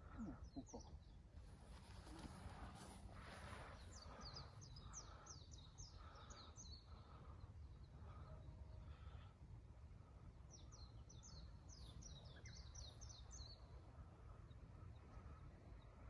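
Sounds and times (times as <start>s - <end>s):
songbird chirping: 0.0s - 9.3s, 10.1s - 16.0s
faint low background noise: 0.0s - 16.0s.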